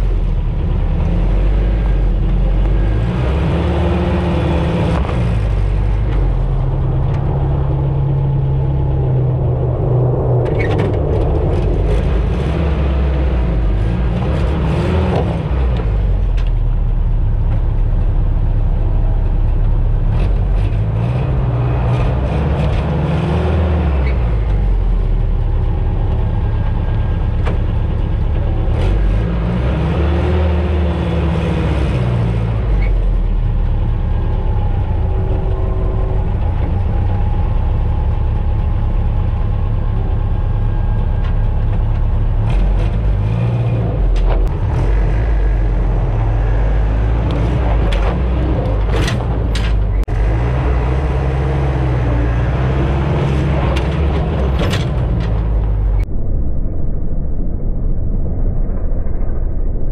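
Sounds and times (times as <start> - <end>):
car engine running slowly: 0.0 - 23.0, 30.4 - 56.1.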